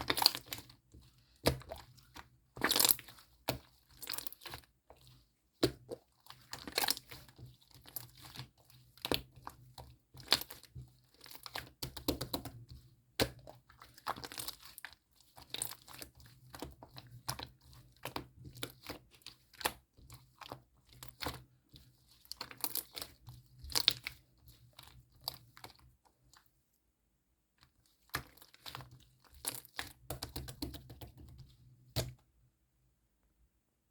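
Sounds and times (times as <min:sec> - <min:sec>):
slime squishing and crackling: 0:00.0 - 0:26.3, 0:27.9 - 0:31.3.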